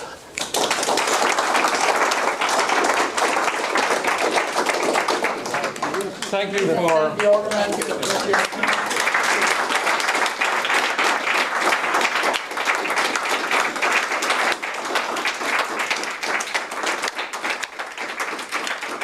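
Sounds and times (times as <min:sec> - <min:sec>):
audience applauding: 0:00.4 - 0:19.0.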